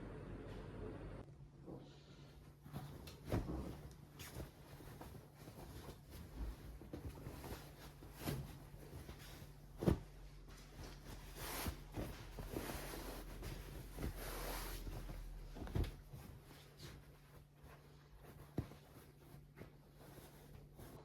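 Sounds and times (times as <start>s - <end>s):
low steady hum: 0.0s - 21.0s
swishing rustles: 2.4s - 21.0s.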